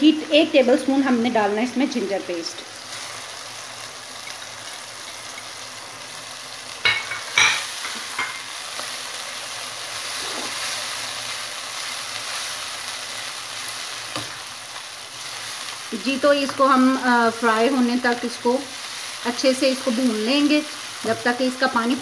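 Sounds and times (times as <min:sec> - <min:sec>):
paste sizzling in hot oil: 0:00.0 - 0:22.0.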